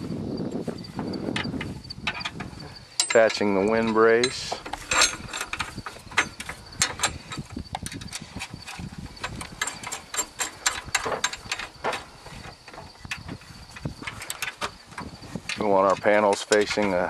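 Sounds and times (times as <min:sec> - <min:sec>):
metal clicks and scrapes: 0:01.3 - 0:17.0.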